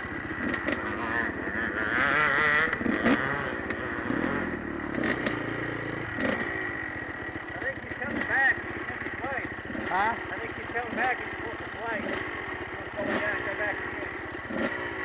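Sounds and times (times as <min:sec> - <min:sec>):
dirt bike engine revving: 0:00.0 - 0:15.0
dirt bike engines idling: 0:00.0 - 0:15.0.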